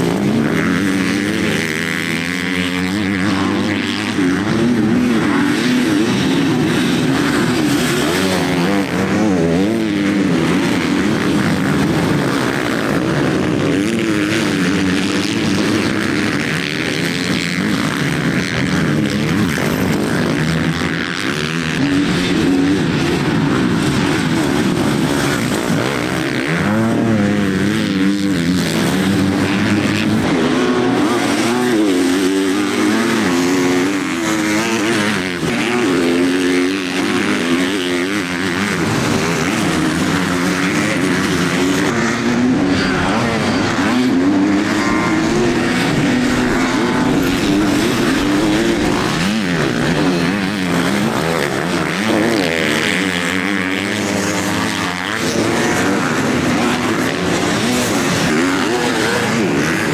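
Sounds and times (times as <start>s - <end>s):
motocross bike engines racing: 0.0s - 59.9s.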